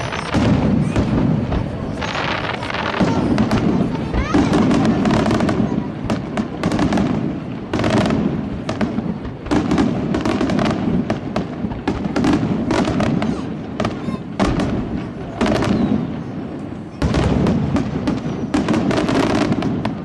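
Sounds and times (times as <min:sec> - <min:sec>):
fireworks bursting and crackling: 0:00.0 - 0:20.0
sharp firework reports: 0:00.0 - 0:20.0.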